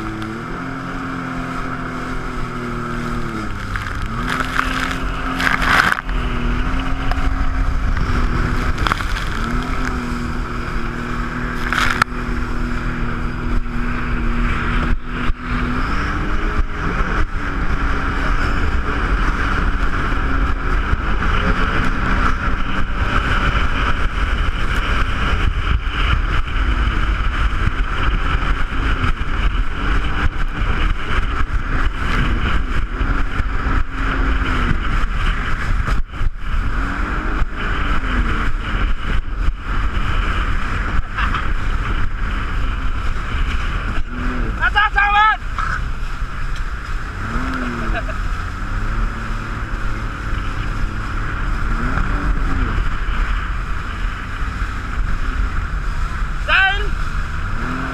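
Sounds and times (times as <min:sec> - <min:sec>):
jet ski engine running: 0:00.0 - 0:57.9.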